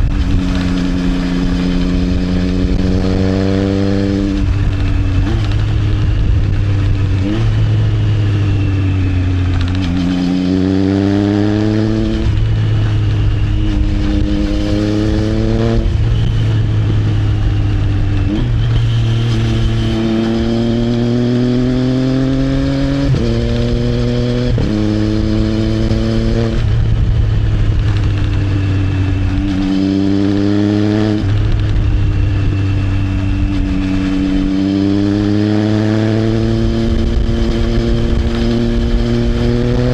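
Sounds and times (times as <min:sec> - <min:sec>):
motorcycle engine accelerating: 0:00.0 - 0:39.9
wind and road rumble: 0:00.0 - 0:39.9.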